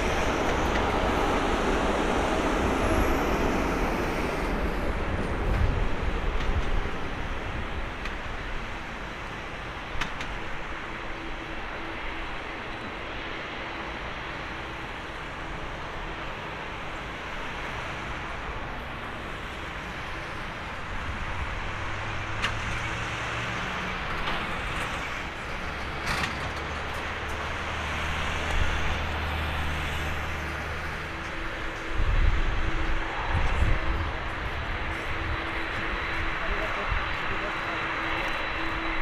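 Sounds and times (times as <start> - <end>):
jet engines at taxi power: 0.0 - 39.0.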